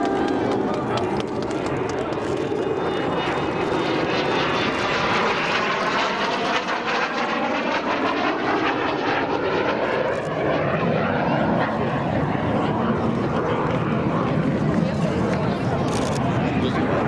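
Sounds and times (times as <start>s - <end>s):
loud jet noise: 0.0s - 17.0s.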